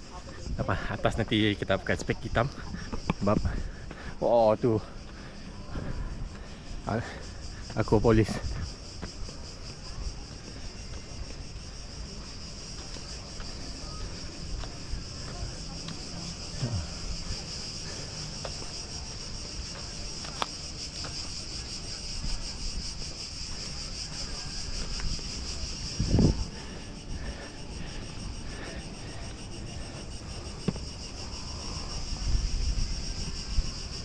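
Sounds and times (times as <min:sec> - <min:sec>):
insect chorus chirring: 0:00.0 - 0:34.0.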